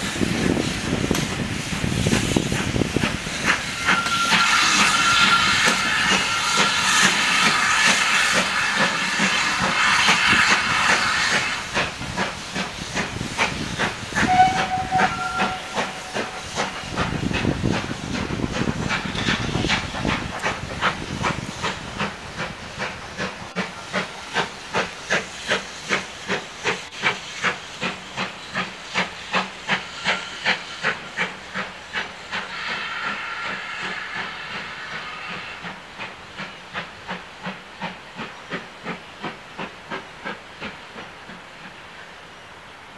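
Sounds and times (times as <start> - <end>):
steam locomotive chuffing: 0.0 - 42.2
steam hissing: 0.0 - 42.7.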